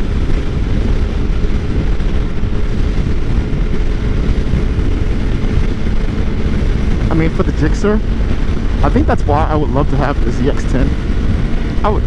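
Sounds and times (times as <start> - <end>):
motorcycle engine droning: 0.0 - 12.0
rushing noise: 0.0 - 12.0.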